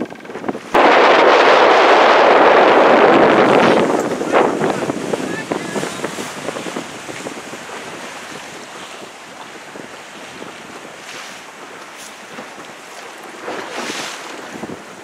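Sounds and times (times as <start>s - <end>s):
choppy seawater splashing: 0.0s - 15.0s
wind buffeting microphone: 0.0s - 15.0s.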